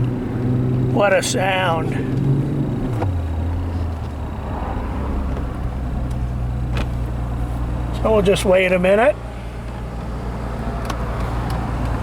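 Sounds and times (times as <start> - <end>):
car engine drone from inside cabin: 0.0 - 12.0.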